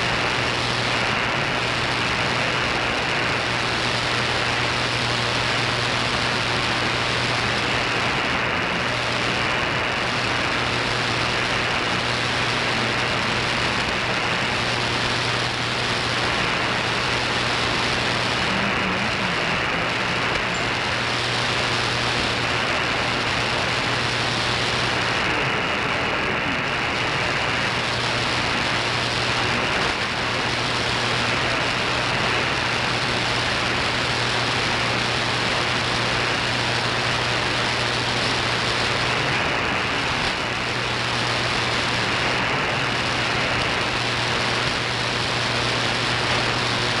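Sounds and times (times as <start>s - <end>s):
shortwave radio static and hiss: 0.0s - 47.0s.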